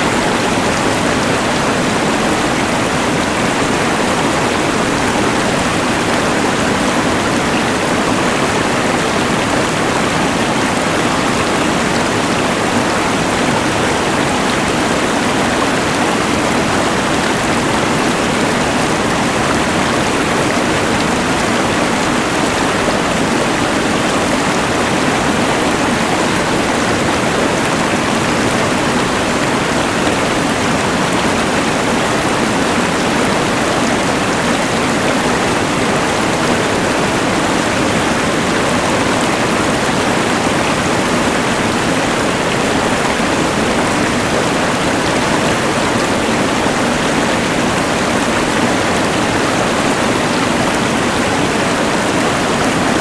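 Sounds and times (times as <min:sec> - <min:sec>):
rushing river: 0:00.0 - 0:53.0.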